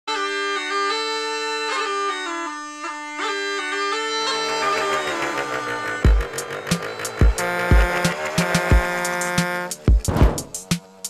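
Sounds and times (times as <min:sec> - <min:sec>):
bagpipe chanter melody: 0:00.1 - 0:10.1
bagpipe drone: 0:00.1 - 0:10.1.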